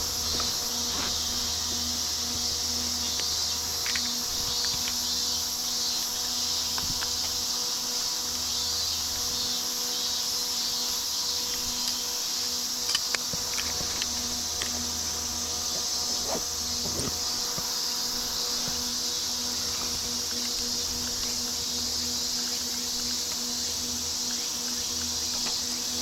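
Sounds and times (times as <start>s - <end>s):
insects chirring: 0.0s - 26.0s
low hum: 0.0s - 26.0s.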